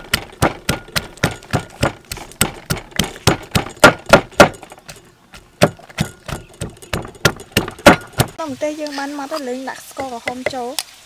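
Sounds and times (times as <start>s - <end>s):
pestle pounding in a mortar: 0.0s - 8.4s, 10.0s - 10.6s.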